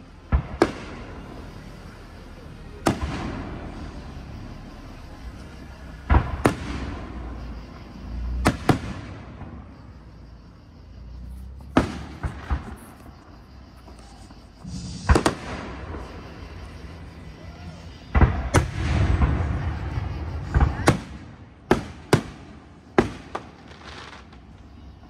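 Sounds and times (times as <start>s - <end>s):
fireworks bursting with echoing bangs: 0.0s - 4.4s, 5.6s - 10.2s, 11.2s - 13.4s, 14.6s - 24.6s.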